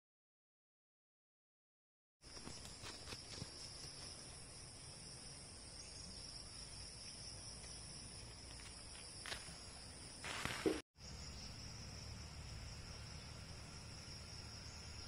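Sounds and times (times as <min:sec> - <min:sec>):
insects chirping: 0:02.2 - 0:15.0.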